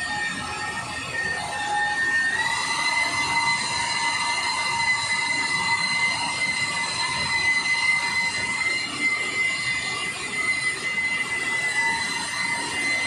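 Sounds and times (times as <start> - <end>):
electric polisher whine: 0.0 - 13.0.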